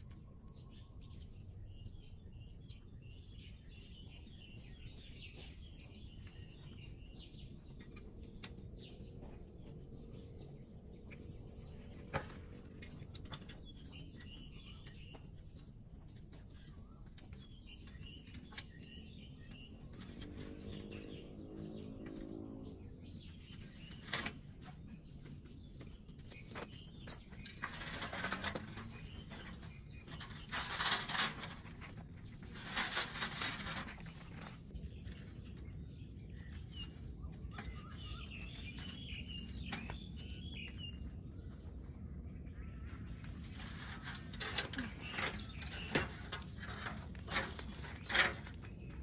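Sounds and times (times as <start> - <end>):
faint birds chirping: 0.0 - 49.0.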